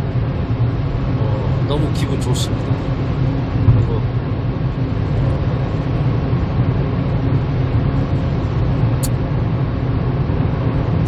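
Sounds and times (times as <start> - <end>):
car cabin engine and road noise: 0.0 - 11.0.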